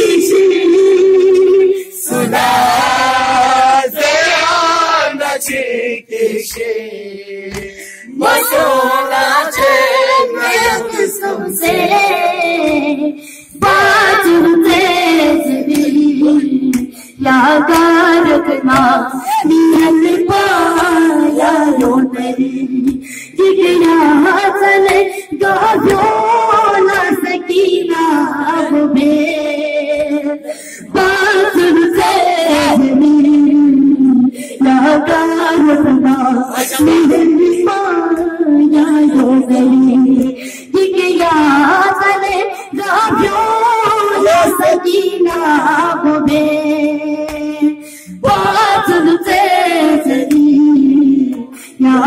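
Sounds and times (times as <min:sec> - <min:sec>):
boy chanting into a microphone: 0:00.0 - 0:52.0.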